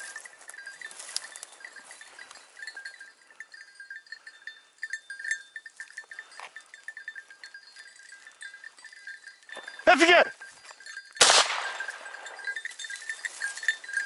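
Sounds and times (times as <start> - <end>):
small metal bell tinkling: 0.0 - 14.0.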